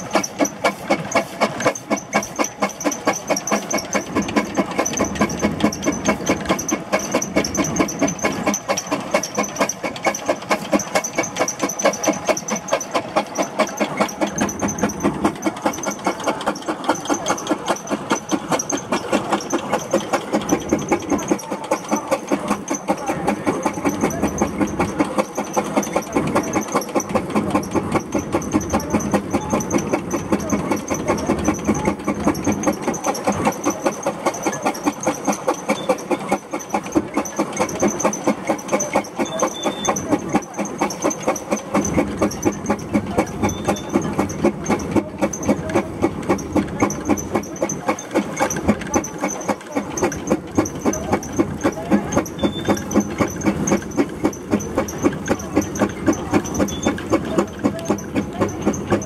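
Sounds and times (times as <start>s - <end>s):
steam engine exhaust chuffing: 0.0s - 59.0s
steam hissing: 0.0s - 59.0s.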